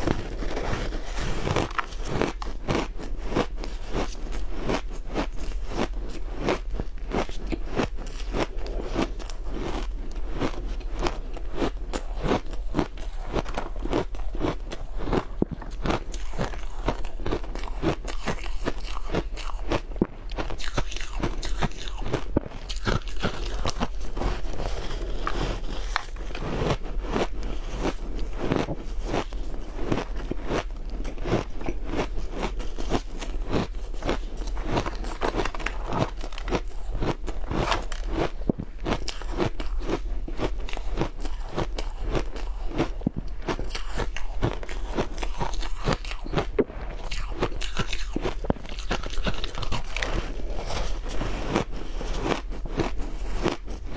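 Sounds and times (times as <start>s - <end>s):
crunching and chewing ice: 0.0s - 53.9s.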